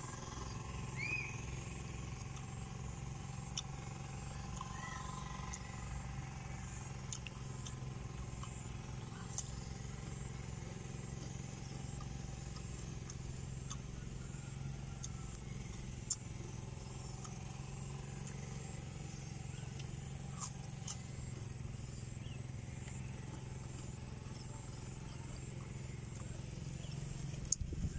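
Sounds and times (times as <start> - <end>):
low engine-like drone: 0.0 - 27.9
crunchy eating clicks: 0.1 - 27.9.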